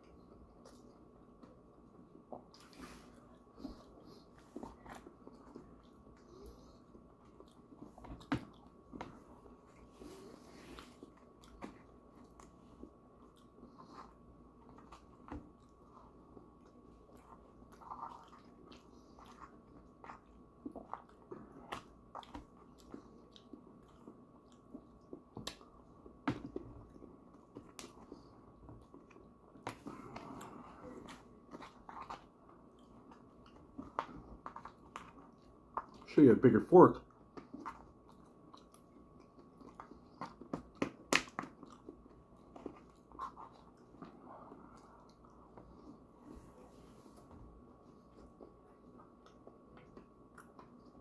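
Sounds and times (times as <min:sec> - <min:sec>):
quiet chewing: 0:00.0 - 0:36.3, 0:37.0 - 0:51.0
faint steady hum: 0:00.0 - 0:51.0.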